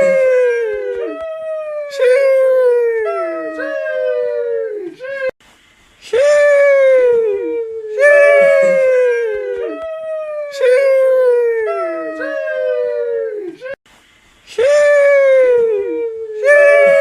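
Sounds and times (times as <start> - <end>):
person exclaiming sheesh: 0.0 - 5.3, 6.1 - 13.8, 14.6 - 17.0.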